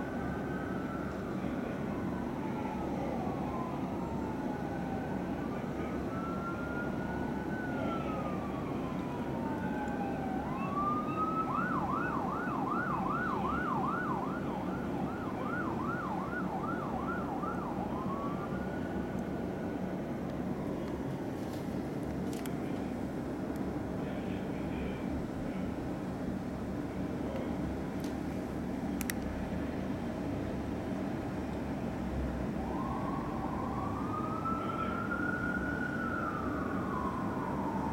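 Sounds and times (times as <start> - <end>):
fire engine siren wailing: 0.0 - 25.8, 31.8 - 37.9
city traffic rumble: 0.0 - 37.9.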